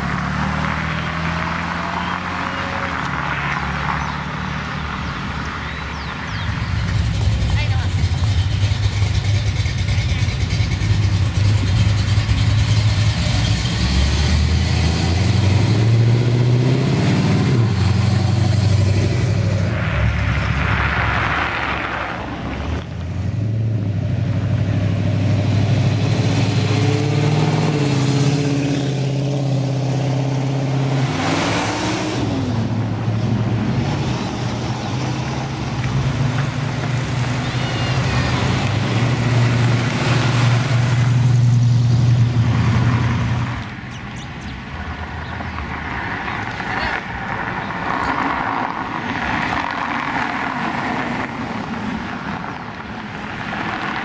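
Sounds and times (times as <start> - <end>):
car engines rumbling and revving: 0.0 - 54.0.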